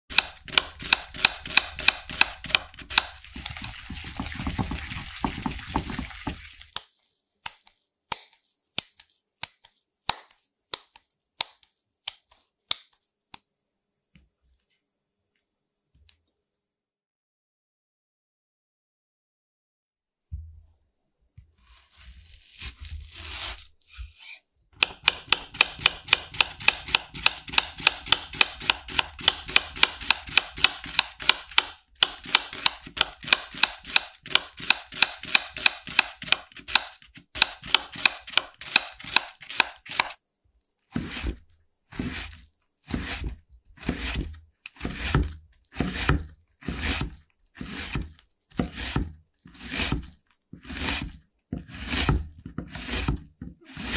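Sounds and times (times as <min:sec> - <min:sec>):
knife cutting onion on wooden board: 0:00.1 - 0:13.0, 0:21.4 - 0:40.2, 0:40.9 - 0:53.9.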